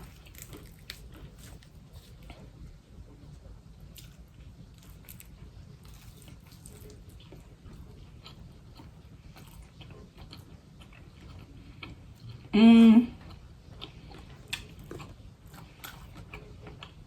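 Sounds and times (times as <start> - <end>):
close-miked chewing: 0.0 - 17.0.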